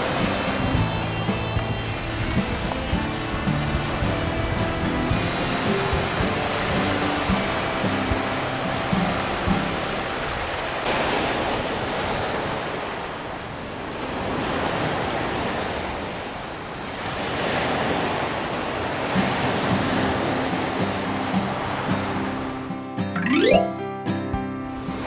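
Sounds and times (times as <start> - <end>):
ocean waves breaking: 0.0 - 23.7.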